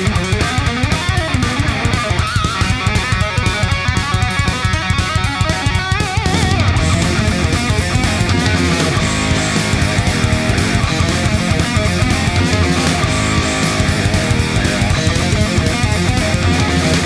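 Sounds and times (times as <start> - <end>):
bending lead guitar line: 0.0 - 17.0
rock music with electric guitar: 0.0 - 17.0
steady drum beat: 0.0 - 17.0.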